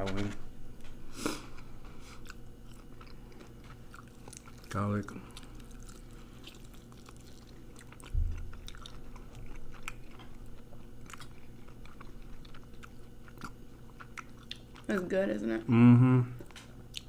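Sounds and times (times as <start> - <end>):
person chewing chicken wings: 1.3 - 15.0, 16.4 - 17.0.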